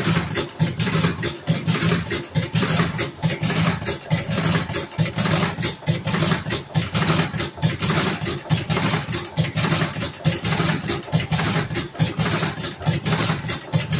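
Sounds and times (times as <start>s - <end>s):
machine mechanism clacking: 0.0s - 13.9s.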